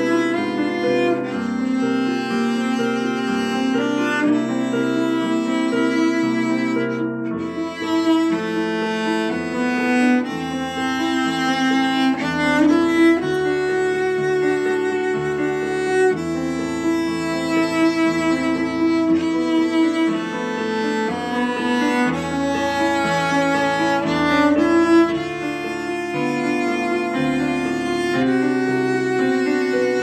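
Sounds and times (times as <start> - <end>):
instrumental music with held notes: 0.0 - 30.0.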